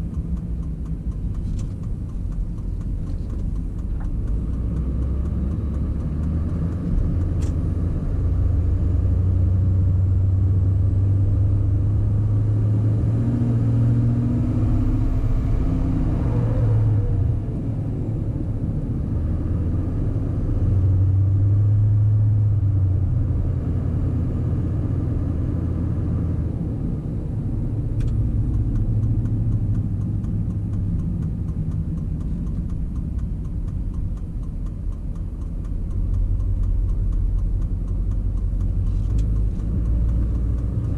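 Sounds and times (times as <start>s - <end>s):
pickup engine and road drone: 0.0s - 40.9s.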